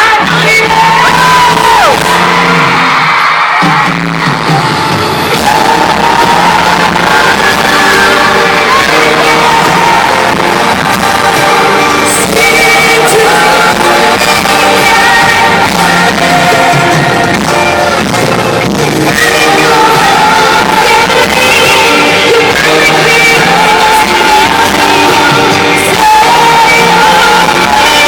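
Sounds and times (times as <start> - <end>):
audience shouting and yelling: 0.0 - 28.0
live band playing: 0.0 - 28.0
woman singing: 5.3 - 28.0.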